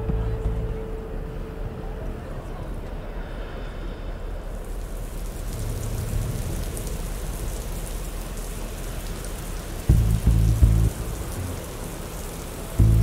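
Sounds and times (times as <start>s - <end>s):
low rumble: 0.0s - 9.0s, 9.9s - 11.8s, 12.8s - 13.0s
rain falling: 0.0s - 13.0s.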